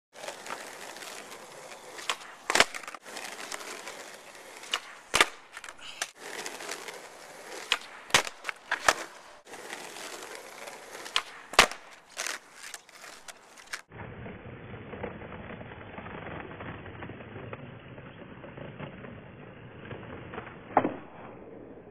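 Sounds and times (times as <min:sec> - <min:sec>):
skateboard wheels rolling on asphalt: 0:00.1 - 0:21.9
skateboard cracks: 0:00.2 - 0:21.9.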